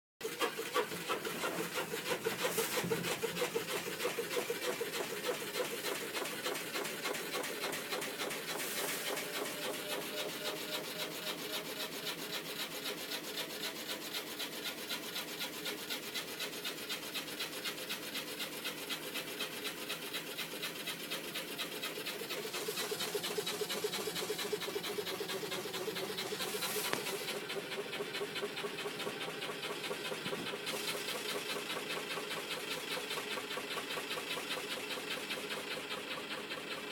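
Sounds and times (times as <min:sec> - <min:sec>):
machine pulsing noise: 0:00.2 - 0:36.9.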